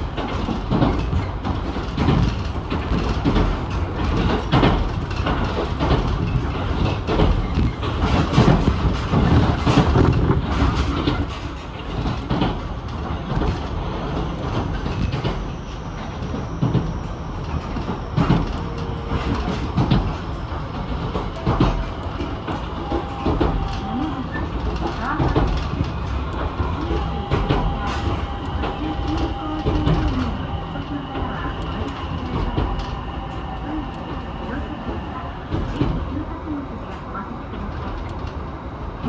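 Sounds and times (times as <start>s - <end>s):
train running rumble: 0.0s - 39.0s
wheels clicking on track: 0.0s - 39.0s.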